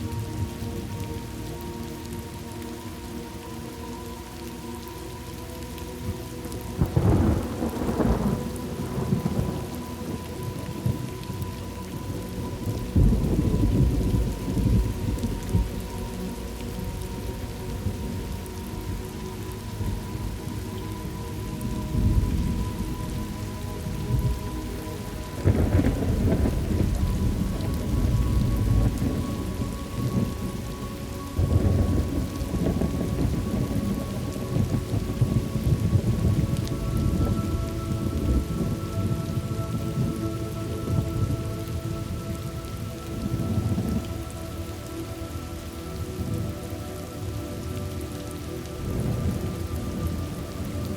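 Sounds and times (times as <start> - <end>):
steady rain falling: 0.0 - 50.9
thunder rumbling: 6.0 - 44.8, 45.6 - 50.9.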